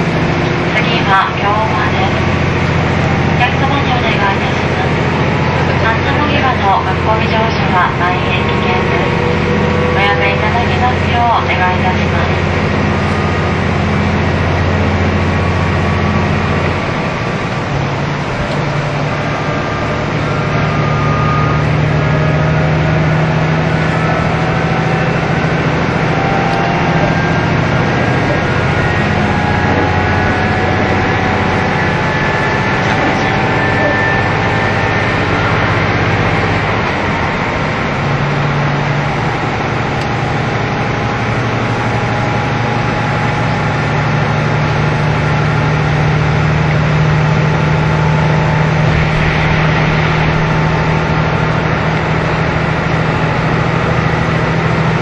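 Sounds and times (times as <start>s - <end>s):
diesel railcar engine drone: 0.0s - 55.0s
faint whining tones: 0.0s - 55.0s
wheel and rail noise: 0.0s - 55.0s.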